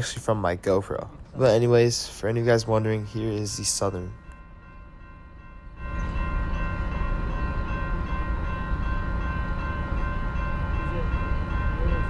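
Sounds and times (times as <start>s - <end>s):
train rumble: 0.0s - 12.0s
high ringing tone: 1.4s - 12.0s.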